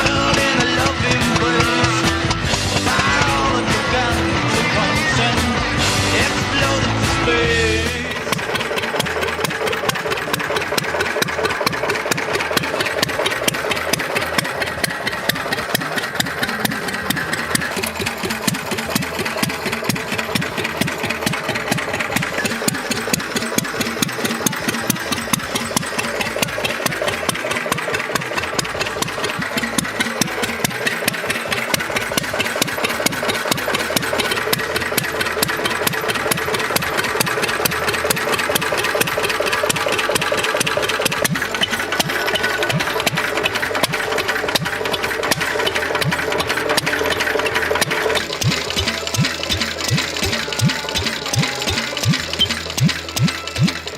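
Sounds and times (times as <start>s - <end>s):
single-cylinder engine running: 0.0s - 53.9s.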